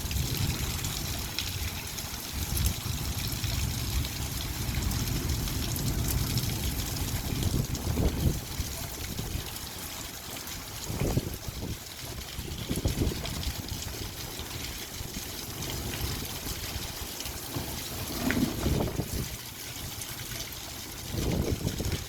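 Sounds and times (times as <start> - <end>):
light rain patter: 0.0 - 22.0
water trickling: 0.0 - 22.0.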